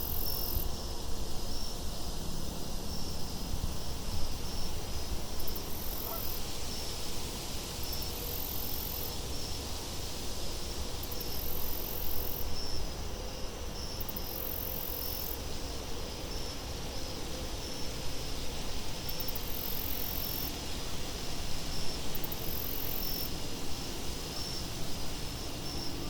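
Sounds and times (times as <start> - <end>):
insects trilling: 4.3 - 7.0, 7.7 - 26.0.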